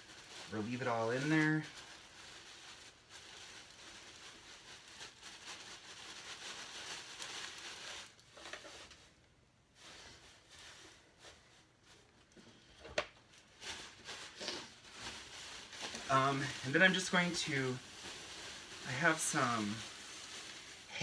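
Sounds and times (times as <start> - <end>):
plastic bag crinkling: 0.0 - 9.2, 9.8 - 12.4, 13.0 - 21.0
newspaper rustling: 0.0 - 21.0.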